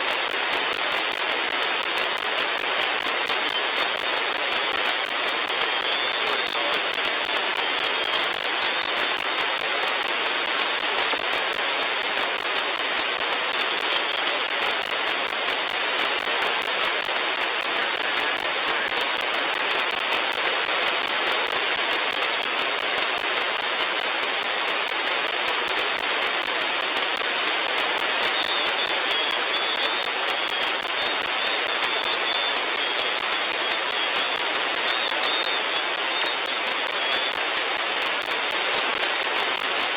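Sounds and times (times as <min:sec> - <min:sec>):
fine crackle of clicks: 0:00.0 - 0:39.9
radio static hiss: 0:00.0 - 0:39.9.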